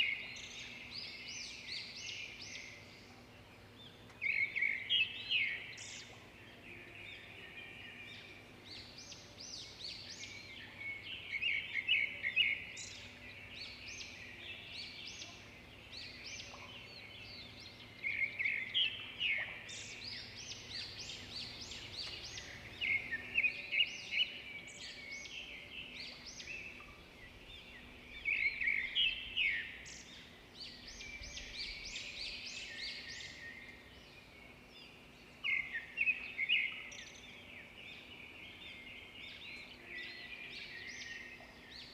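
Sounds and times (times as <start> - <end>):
small birds singing and chirping: 0.0 - 41.9.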